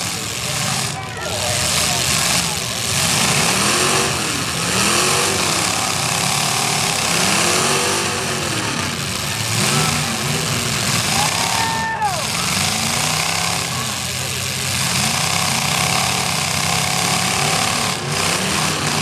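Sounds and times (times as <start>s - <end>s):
car engine revving: 0.0s - 19.0s
steady loud noise: 0.0s - 19.0s.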